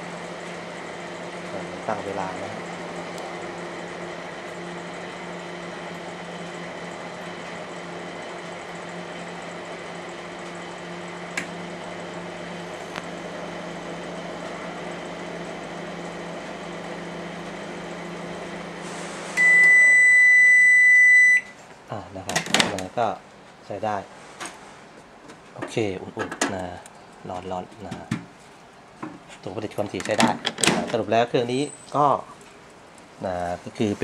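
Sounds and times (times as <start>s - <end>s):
microwave oven humming: 0.0s - 34.0s.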